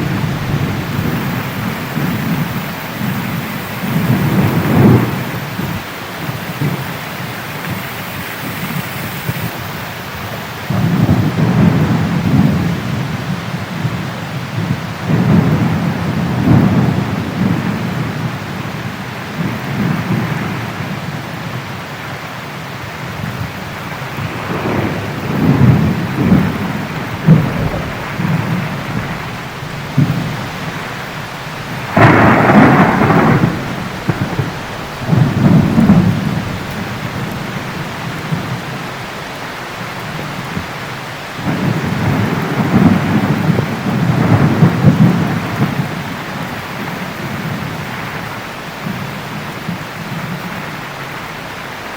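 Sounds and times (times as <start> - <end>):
sharp thunderclap: 0.0 - 5.9, 10.7 - 21.0, 23.2 - 50.6
rolling thunder: 0.0 - 7.0, 8.5 - 21.7, 22.8 - 51.5
heavy rain falling: 0.0 - 51.9.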